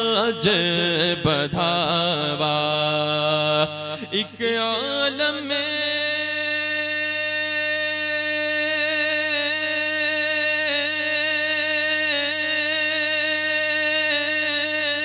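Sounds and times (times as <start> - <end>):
man singing long held note: 0.0 - 15.0.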